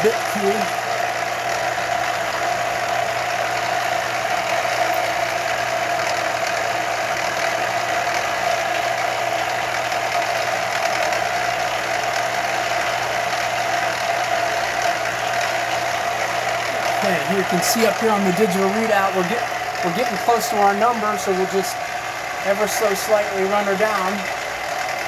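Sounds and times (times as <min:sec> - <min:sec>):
milling machine whine: 0:00.0 - 0:25.0.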